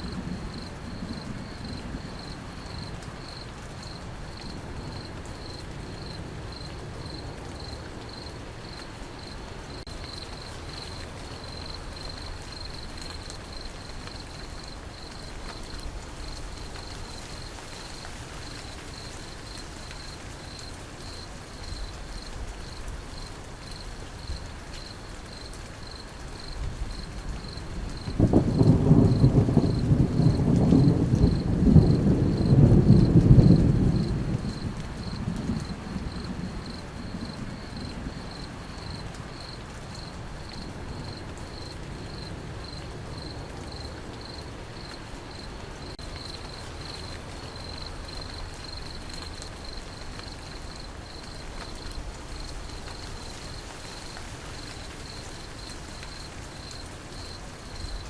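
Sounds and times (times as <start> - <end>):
cricket chirping: 0.0 - 58.0
steady rain falling: 0.0 - 58.0.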